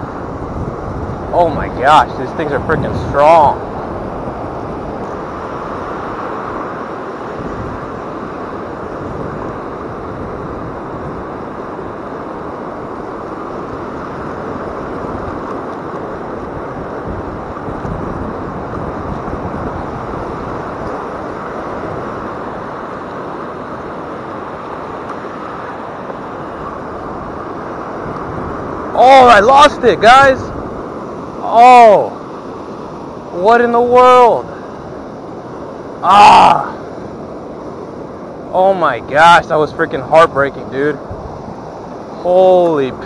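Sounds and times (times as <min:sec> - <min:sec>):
wind on microphone: 0:00.0 - 0:39.7, 0:40.5 - 0:43.0
surf washing up beach: 0:00.0 - 0:43.0.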